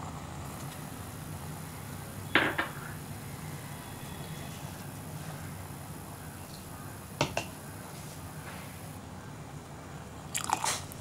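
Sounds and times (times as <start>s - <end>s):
stove heating pot of water: 0.0s - 9.0s.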